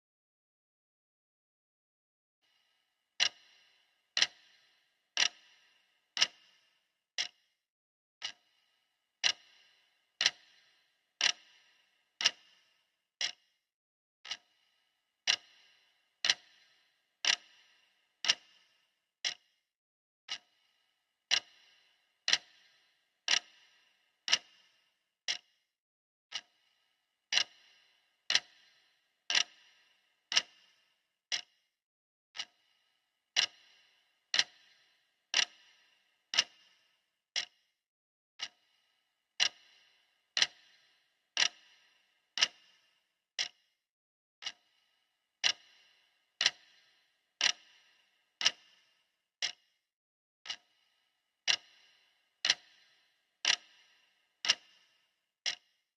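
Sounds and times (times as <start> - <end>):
clock ticking: 2.4 - 7.5, 8.2 - 13.5, 14.2 - 19.6, 20.3 - 25.6, 26.3 - 31.6, 32.4 - 37.6, 38.4 - 38.8, 39.4 - 43.7, 44.4 - 44.8, 45.4 - 49.8, 50.4 - 55.8.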